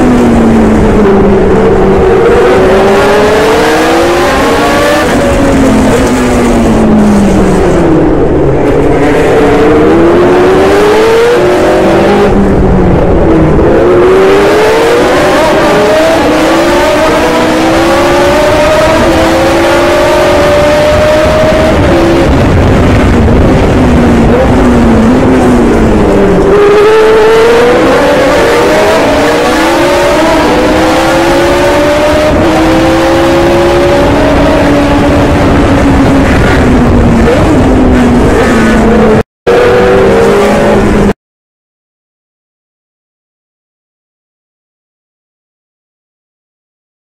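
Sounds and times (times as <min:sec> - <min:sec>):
racing car engine revving: 0:00.0 - 0:41.2.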